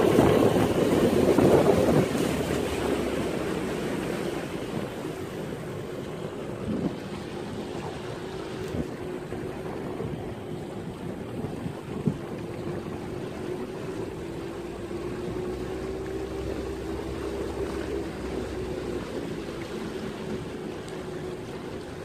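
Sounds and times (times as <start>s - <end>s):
boat motor running: 0.0s - 22.0s
water and wind noise: 0.0s - 22.0s.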